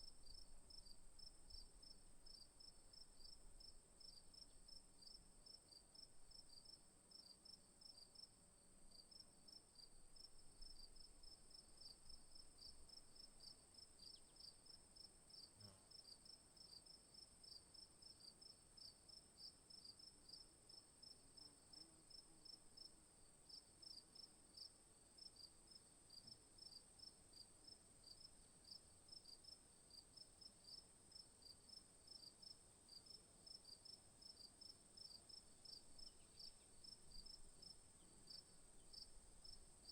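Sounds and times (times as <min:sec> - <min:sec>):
crickets chirping: 0:00.0 - 0:08.3, 0:08.9 - 0:39.9.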